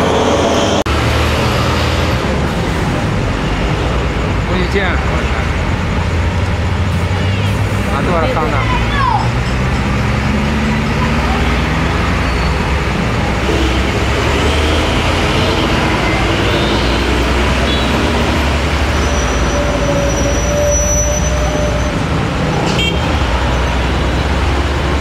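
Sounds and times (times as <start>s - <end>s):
trucks and motorcycles passing: 0.0s - 25.0s.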